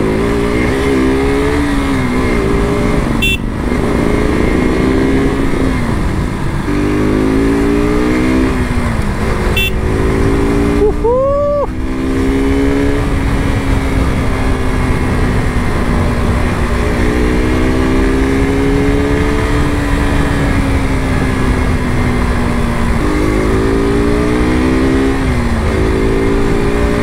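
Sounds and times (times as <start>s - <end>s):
motorcycle engine cruising: 0.0s - 27.0s
wind rumble on microphone: 0.0s - 27.0s.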